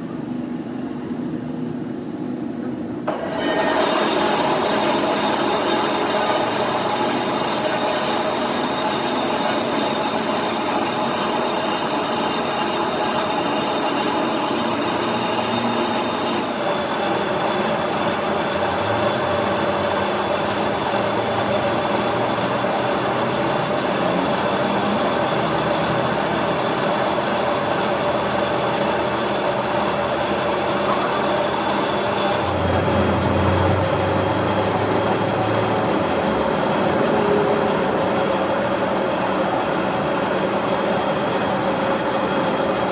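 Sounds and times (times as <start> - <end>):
metal lathe whining: 3.1 - 42.9.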